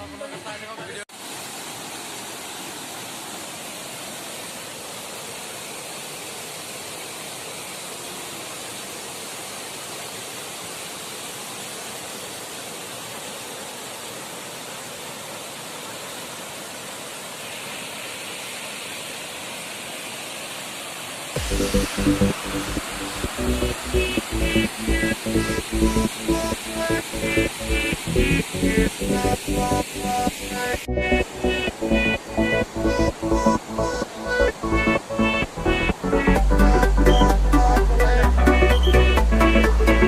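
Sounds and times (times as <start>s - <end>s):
waterfall roaring: 0.0s - 40.0s.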